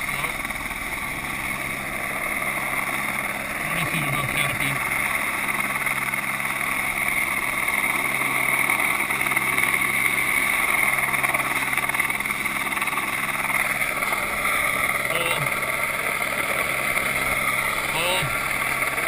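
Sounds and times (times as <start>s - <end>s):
helicopter rotor and engine noise: 0.0s - 19.0s.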